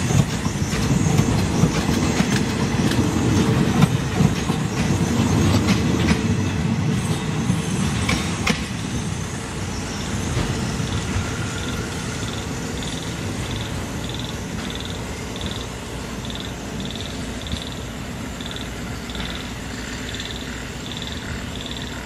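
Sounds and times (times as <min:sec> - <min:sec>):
train wheels clicking over rail joints: 0:00.0 - 0:22.0.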